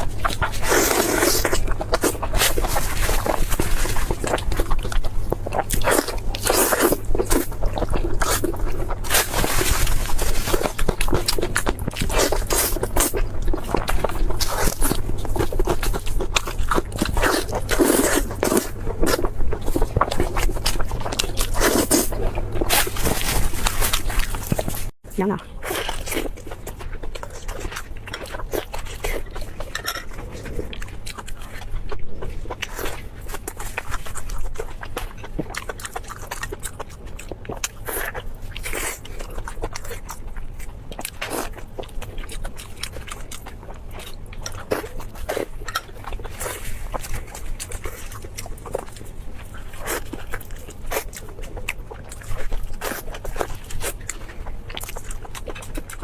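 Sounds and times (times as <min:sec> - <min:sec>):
crisp crunching while chewing: 0:00.0 - 0:56.0
wet chewing clicks: 0:00.0 - 0:56.0.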